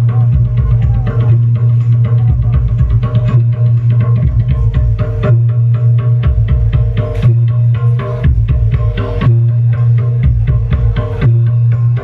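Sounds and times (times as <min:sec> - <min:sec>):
deep bass tone: 0:00.0 - 0:12.0.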